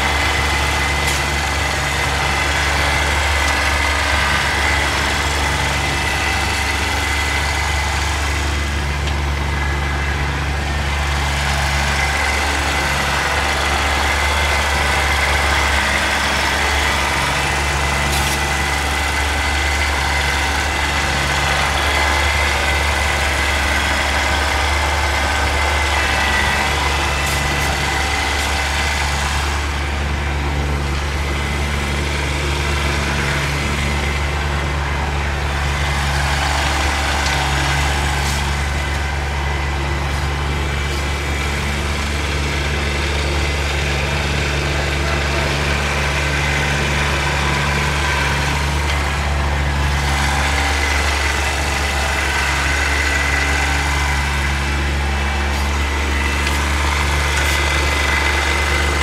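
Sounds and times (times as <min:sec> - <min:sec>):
tractor diesel engine droning: 0:00.0 - 0:59.0.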